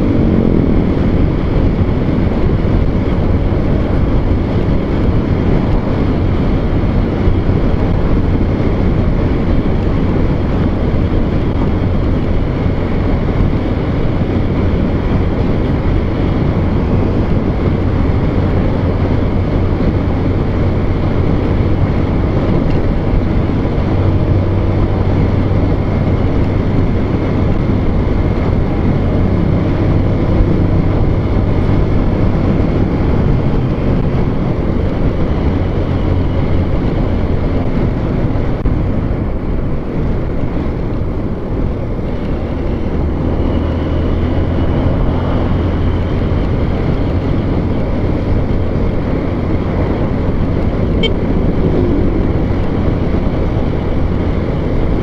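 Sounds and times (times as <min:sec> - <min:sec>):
low engine drone: 0:00.0 - 0:55.0
road noise: 0:00.0 - 0:55.0.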